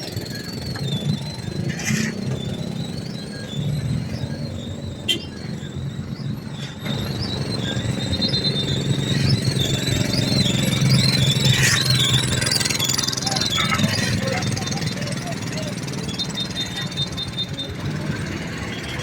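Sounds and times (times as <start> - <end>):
high wavering squeal: 0.0 - 19.0
machinery engine running: 0.0 - 19.0.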